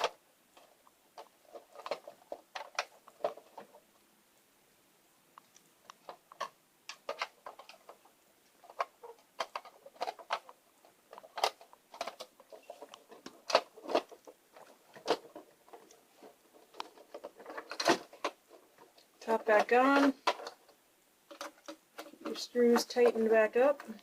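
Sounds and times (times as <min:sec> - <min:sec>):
plastic parts clicking and tapping: 0:00.0 - 0:03.8, 0:05.4 - 0:24.0.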